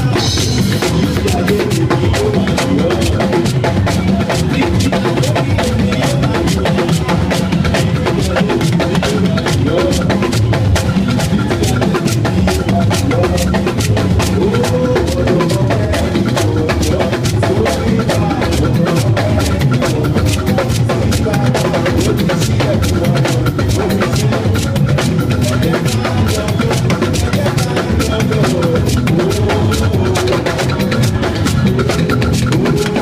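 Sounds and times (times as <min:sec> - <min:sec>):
fast drumming and hand percussion: 0:00.0 - 0:33.0
man singing through sound system: 0:00.0 - 0:33.0.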